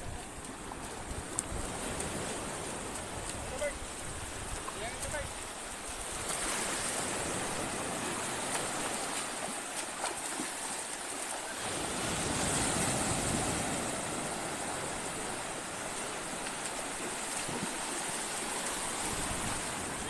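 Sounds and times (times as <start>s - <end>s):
small waves breaking: 0.0s - 20.0s.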